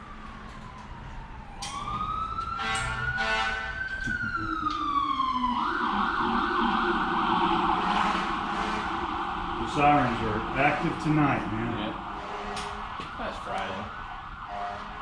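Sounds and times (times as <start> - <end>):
emergency vehicle siren wailing: 0.0 - 15.0
siren blast: 0.0 - 15.0.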